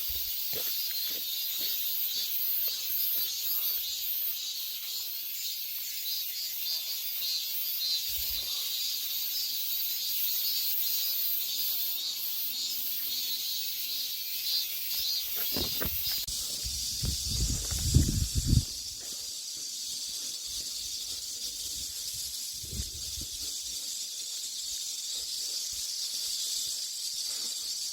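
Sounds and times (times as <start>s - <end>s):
cicadas buzzing in chorus: 0.0s - 27.9s.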